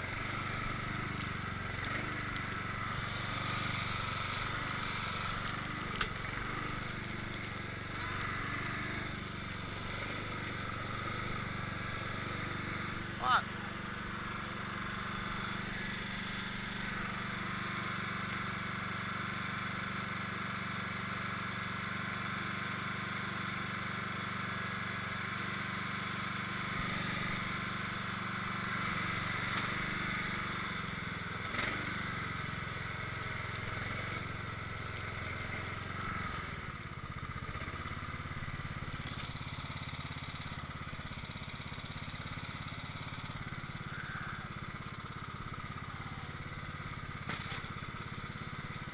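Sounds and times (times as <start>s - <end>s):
lawn tractor engine running: 0.0s - 48.9s.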